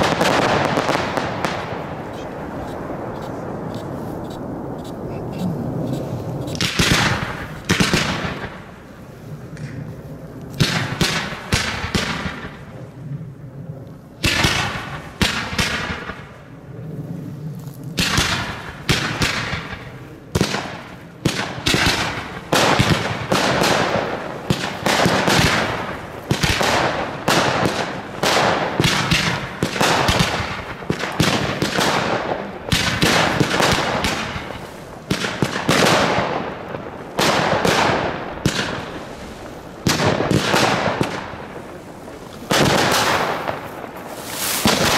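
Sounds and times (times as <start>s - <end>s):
fireworks launching and bursting: 0.0s - 13.3s, 14.1s - 44.9s
fireworks crackling: 0.0s - 44.9s.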